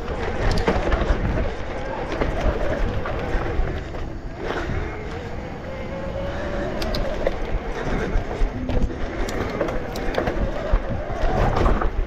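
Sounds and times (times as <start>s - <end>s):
bike rattling and clicking: 0.0s - 12.0s
tyres on dirt: 0.0s - 12.0s
wind rumble on microphone: 0.0s - 12.0s.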